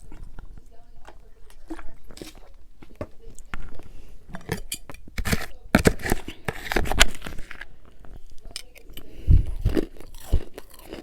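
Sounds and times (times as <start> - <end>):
chewing crunchy frost: 0.0 - 11.0.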